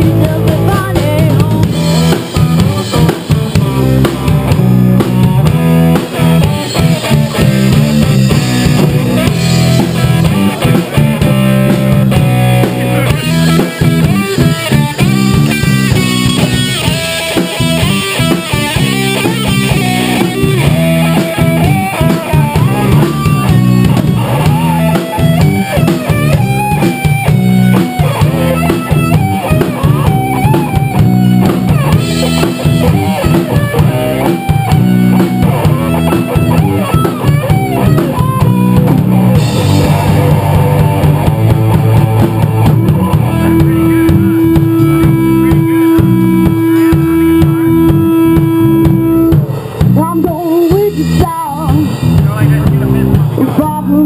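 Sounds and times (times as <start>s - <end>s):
bass guitar: 0.0s - 54.0s
drum kit: 0.0s - 54.0s
electric guitar lead: 0.0s - 54.0s.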